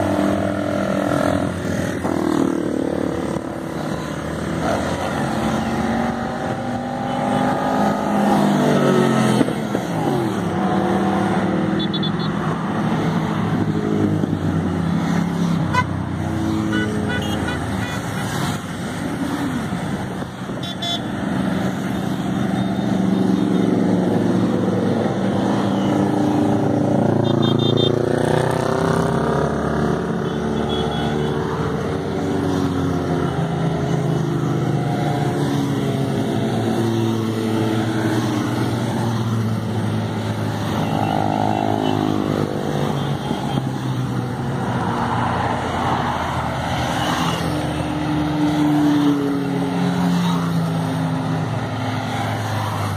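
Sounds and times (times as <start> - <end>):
motorcycles riding past: 0.0 - 52.9.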